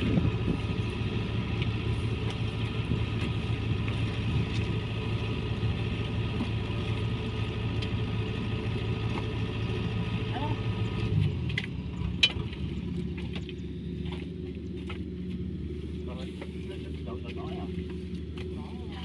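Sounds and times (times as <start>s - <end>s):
machine engine droning: 0.0s - 19.0s.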